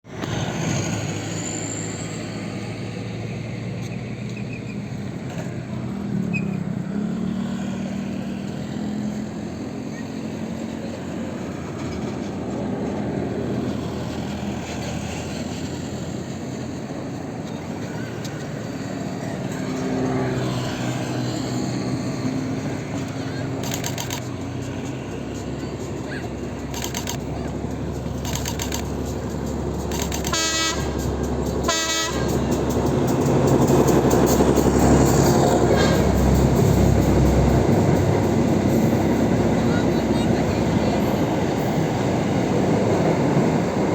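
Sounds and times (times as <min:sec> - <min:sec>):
diesel locomotive engine running: 0:00.1 - 0:43.9.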